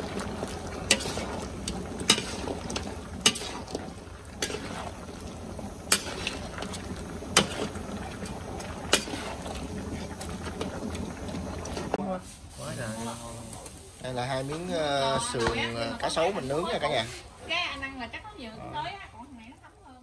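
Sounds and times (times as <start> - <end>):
food bubbling in a wok: 0.0 - 20.0.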